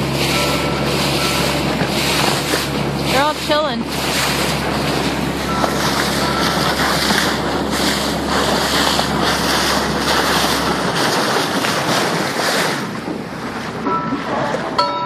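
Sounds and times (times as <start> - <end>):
choppy water slapping boat: 0.0 - 15.0
low steady hum: 0.0 - 15.0
wind buffeting microphone: 0.8 - 14.8.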